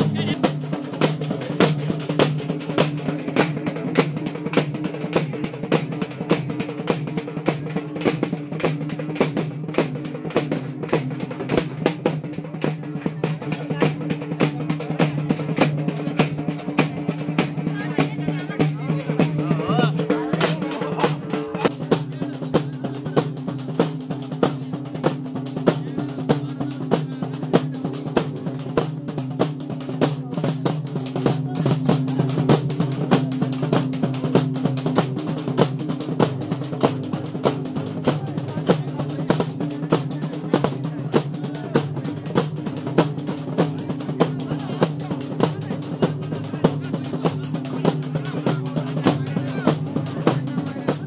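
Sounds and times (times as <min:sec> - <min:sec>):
large drums beaten with sticks: 0:00.0 - 0:51.0.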